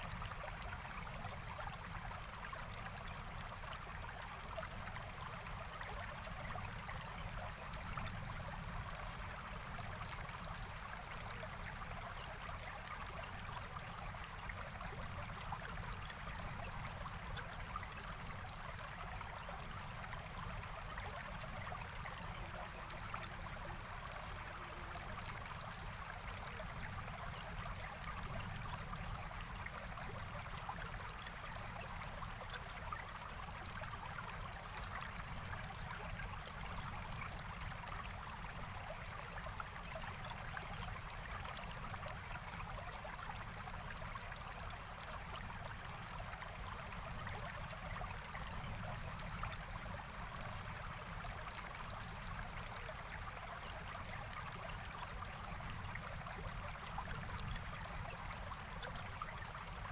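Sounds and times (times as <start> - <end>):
stream water rushing and trickling: 0.0 - 59.9.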